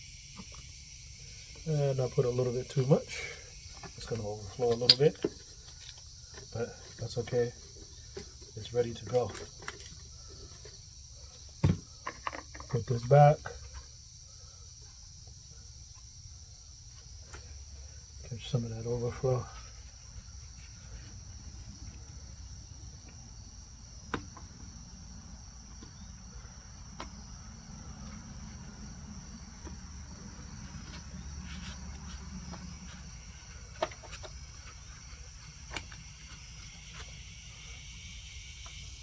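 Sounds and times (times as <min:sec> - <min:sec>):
crickets chirring: 0:00.0 - 0:39.0.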